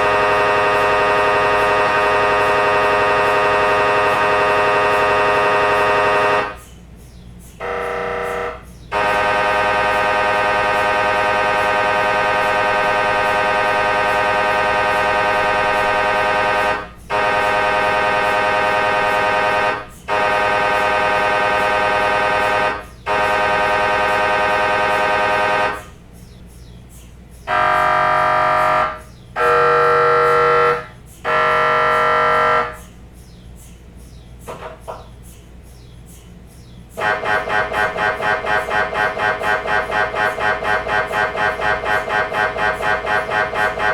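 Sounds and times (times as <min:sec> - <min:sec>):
mri scanner buzzing: 0:00.0 - 0:06.7, 0:07.6 - 0:26.0, 0:27.5 - 0:32.9, 0:37.0 - 0:43.9
short buzz pulses: 0:00.0 - 0:06.7, 0:07.6 - 0:26.0, 0:27.5 - 0:32.9, 0:37.0 - 0:43.9.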